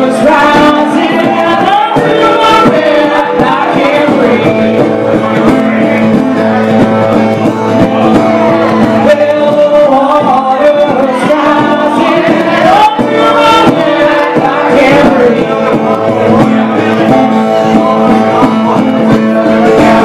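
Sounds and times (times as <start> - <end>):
woman singing into microphone: 0.0 - 6.8, 8.2 - 20.0
strummed acoustic guitar: 0.0 - 20.0.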